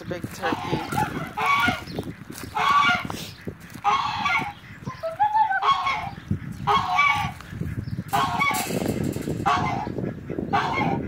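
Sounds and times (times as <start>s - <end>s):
rustling footsteps: 0.0s - 10.2s
geese honking: 0.0s - 11.0s.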